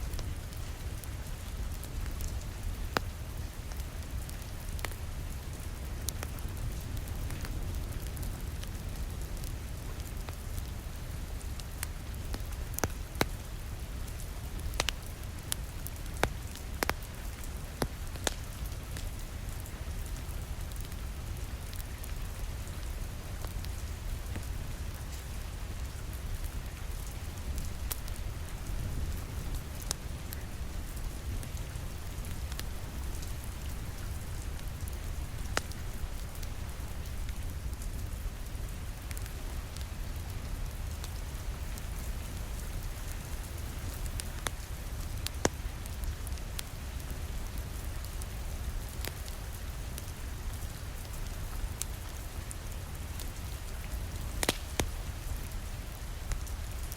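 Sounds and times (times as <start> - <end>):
steady rain: 0.0 - 56.9
wood fire crackling: 0.0 - 56.9.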